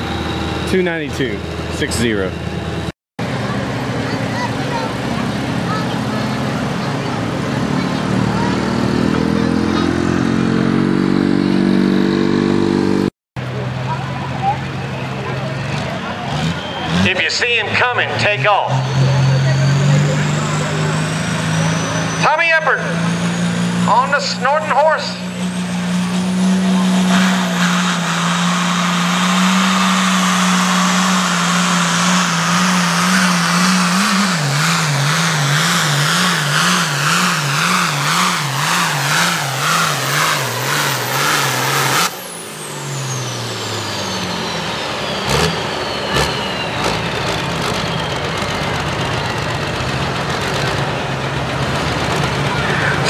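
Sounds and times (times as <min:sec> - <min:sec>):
tractor diesel engine at full power: 0:00.0 - 0:53.0.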